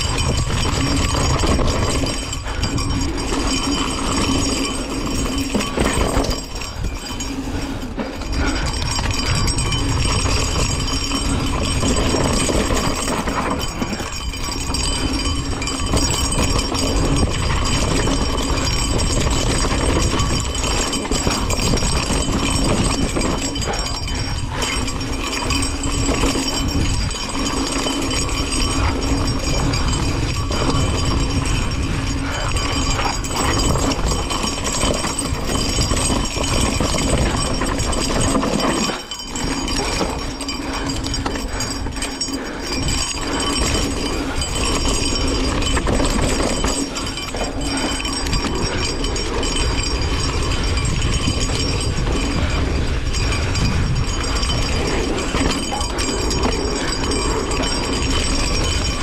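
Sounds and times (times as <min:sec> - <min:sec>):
bike rattling and knocking: 0:00.0 - 0:59.0.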